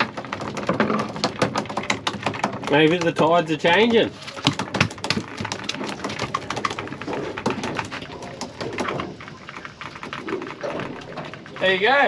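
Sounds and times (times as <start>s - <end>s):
crackle of small clicks: 0.0s - 12.0s.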